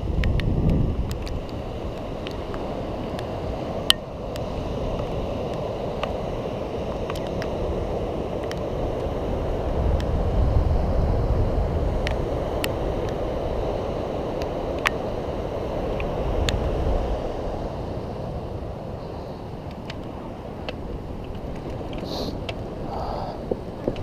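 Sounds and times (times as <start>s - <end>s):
electric scooter rolling: 0.0s - 24.0s.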